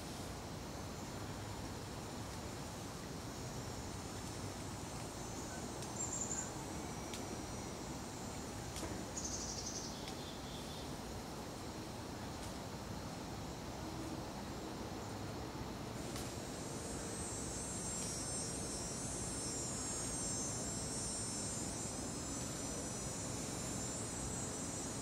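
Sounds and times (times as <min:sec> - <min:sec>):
steady background hiss: 0:00.0 - 0:25.0
high insect chirring: 0:00.6 - 0:25.0.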